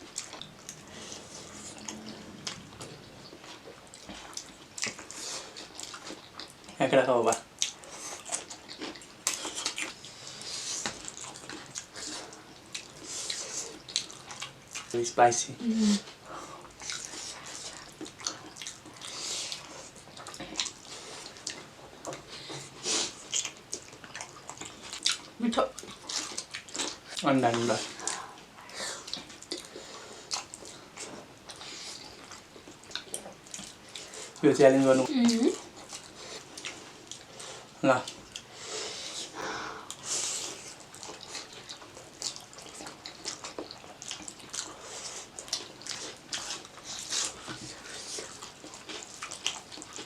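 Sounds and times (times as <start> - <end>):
slurping and chewing noodles: 0.0 - 15.2, 16.0 - 50.0.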